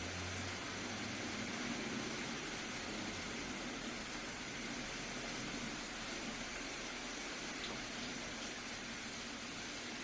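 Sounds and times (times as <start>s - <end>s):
soft steady rain: 0.0s - 10.0s.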